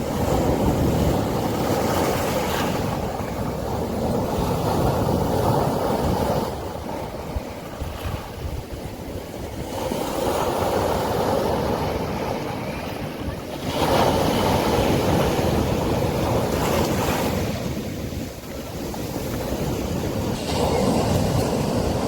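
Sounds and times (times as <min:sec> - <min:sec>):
sea waves washing onto beach: 0:00.0 - 0:22.0
wind rumbling on microphone: 0:00.0 - 0:22.0.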